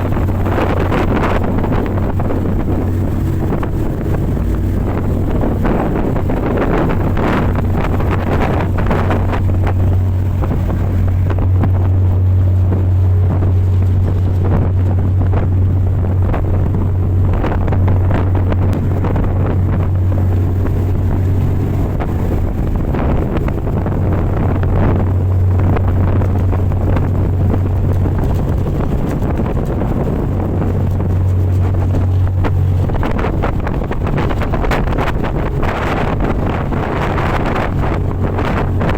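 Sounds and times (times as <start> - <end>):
boat engine drone: 0.0 - 38.9
wind buffeting microphone: 0.0 - 38.9.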